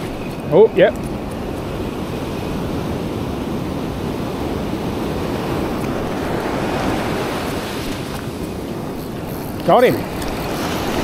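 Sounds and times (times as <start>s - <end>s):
surf washing up a beach: 0.0s - 11.0s
wind on microphone: 0.0s - 11.0s.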